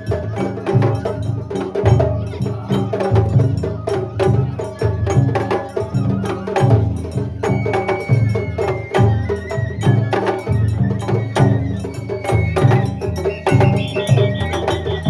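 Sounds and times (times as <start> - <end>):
taiko drums beating: 0.0 - 15.0.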